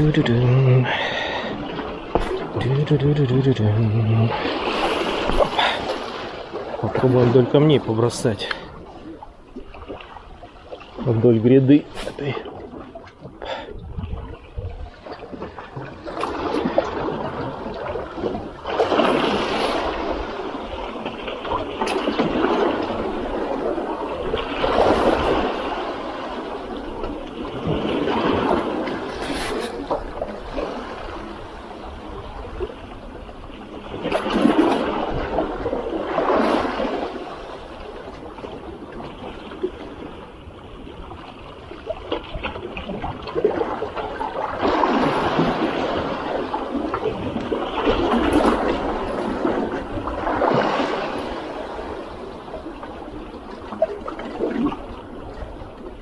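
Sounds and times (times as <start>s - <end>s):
sea waves splashing against rocks: 0.0s - 56.0s.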